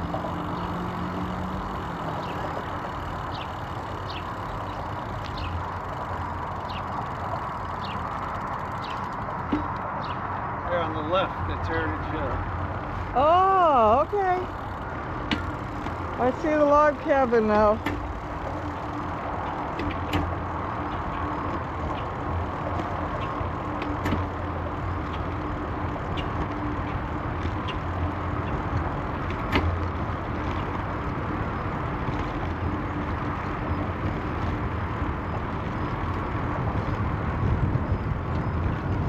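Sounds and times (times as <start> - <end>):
bicycle clicks: 0.0 - 10.6, 11.9 - 39.0
bicycle rolling rumble: 0.0 - 39.0.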